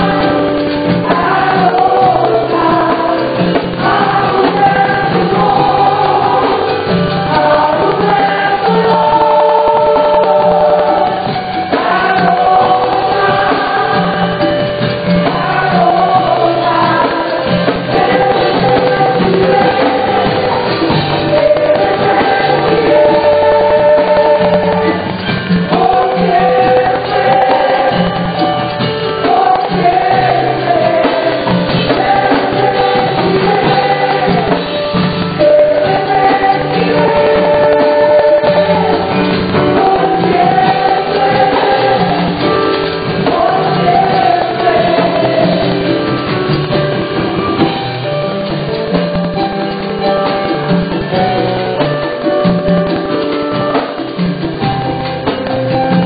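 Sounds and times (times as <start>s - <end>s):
band with keyboard and drums: 0.0s - 56.0s
group of voices singing: 0.0s - 56.0s.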